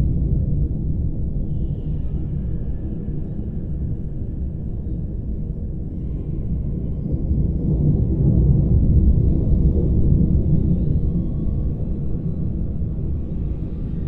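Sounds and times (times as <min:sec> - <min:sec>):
deep-water rumble: 0:00.0 - 0:14.0.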